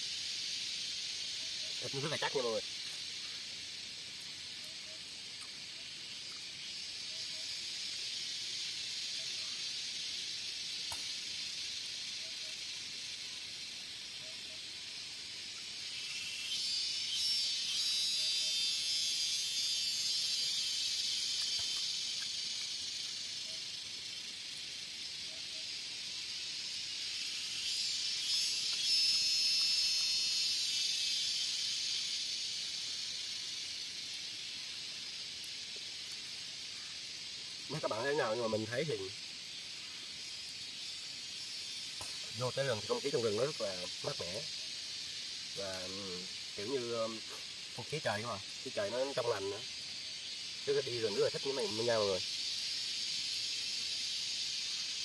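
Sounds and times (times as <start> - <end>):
cicadas chorus: 0.0 - 55.0.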